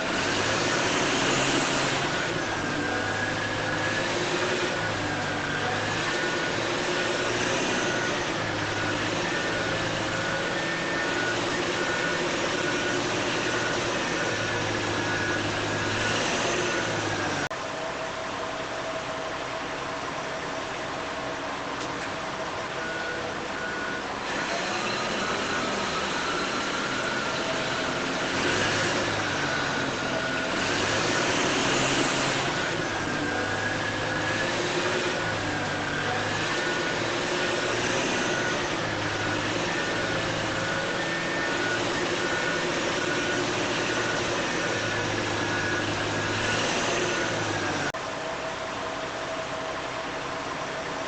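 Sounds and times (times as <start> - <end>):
reversing alarm beeps: 0.0 - 17.5, 22.4 - 47.9
model truck motors whining: 0.0 - 51.0.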